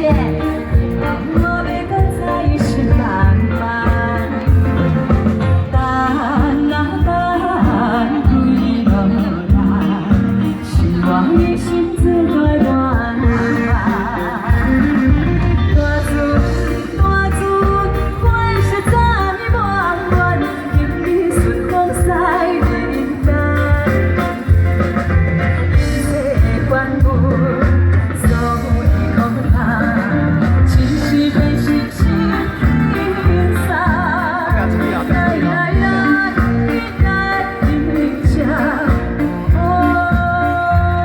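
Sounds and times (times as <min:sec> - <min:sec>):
backing music with heavy bass: 0:00.0 - 0:41.0
woman singing with vibrato: 0:00.0 - 0:41.0.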